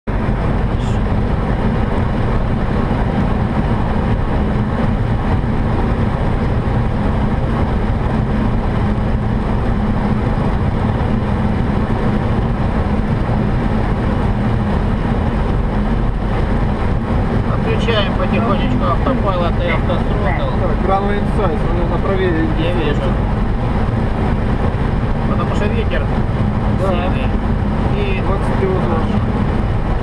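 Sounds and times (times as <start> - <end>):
low engine drone: 0.1 - 30.0
rush of airflow: 0.1 - 30.0.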